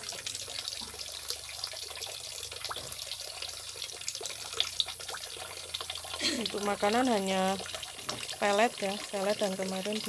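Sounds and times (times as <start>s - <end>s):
water running from a hose: 0.0s - 10.0s.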